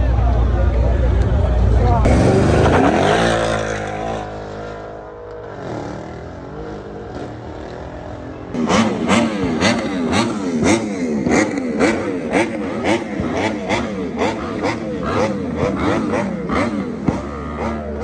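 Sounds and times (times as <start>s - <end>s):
car engine revving: 1.8s - 18.0s.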